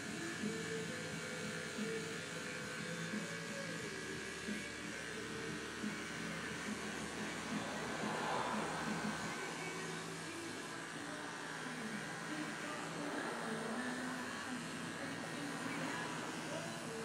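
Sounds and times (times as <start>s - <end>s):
electric hair clippers buzzing: 0.0s - 17.0s.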